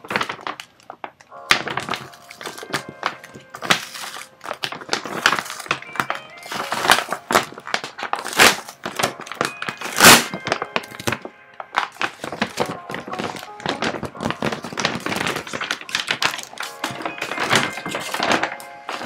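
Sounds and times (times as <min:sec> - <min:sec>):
envelope crinkling and rustling: 0:00.0 - 0:19.0.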